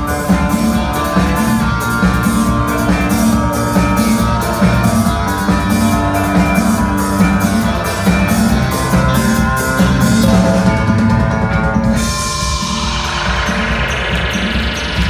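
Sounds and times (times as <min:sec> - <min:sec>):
live rock band playing: 0:00.0 - 0:15.0
steady drum beat: 0:00.0 - 0:15.0.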